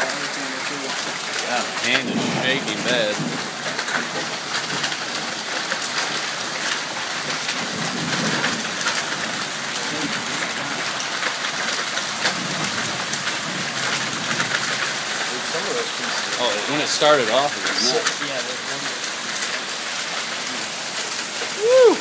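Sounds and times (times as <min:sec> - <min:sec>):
heavy rain hiss: 0:00.0 - 0:22.0.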